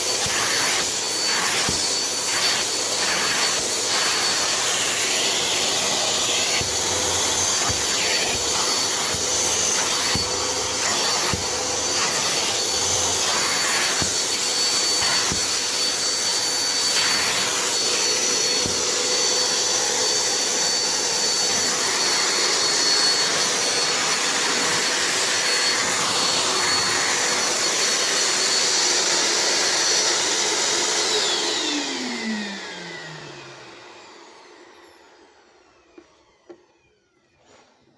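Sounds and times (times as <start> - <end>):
vacuum cleaner motor whining: 0.0 - 37.9.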